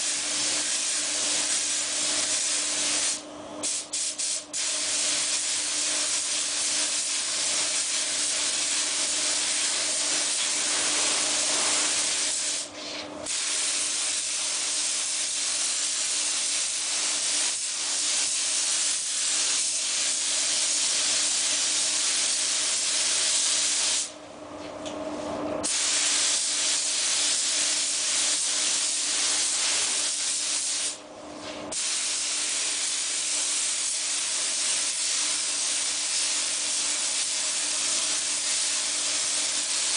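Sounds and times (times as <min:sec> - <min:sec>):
paint spray gun hissing: 0:00.0 - 0:12.7, 0:13.3 - 0:24.1, 0:25.6 - 0:31.0, 0:31.7 - 0:39.9.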